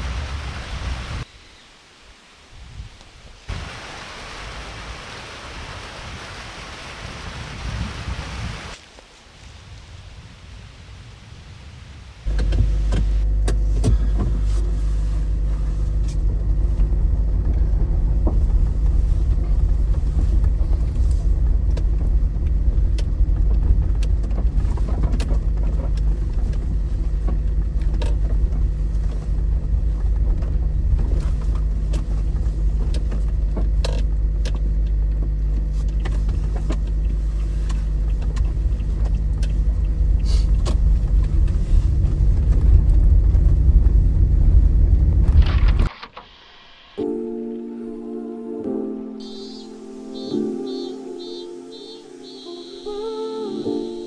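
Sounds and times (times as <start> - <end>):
car driving rumble: 0.0 - 1.3, 3.0 - 45.9.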